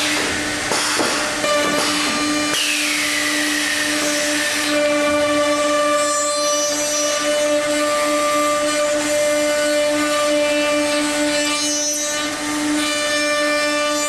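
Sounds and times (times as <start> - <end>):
router motor whining: 1.4 - 14.0.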